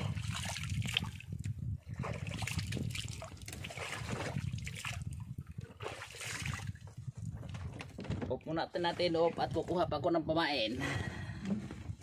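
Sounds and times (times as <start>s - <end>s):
water splashing against boat: 0.0s - 9.9s.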